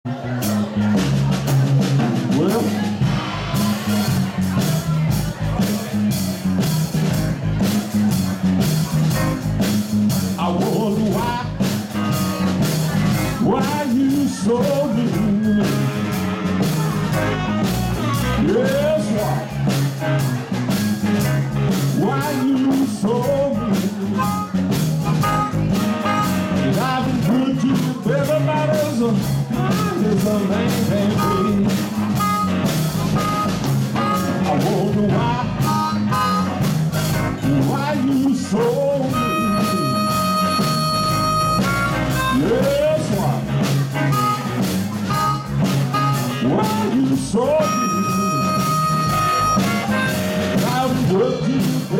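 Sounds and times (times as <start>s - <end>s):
live blues band playing: 0.1s - 51.9s
sliding electric guitar lead: 2.2s - 51.9s.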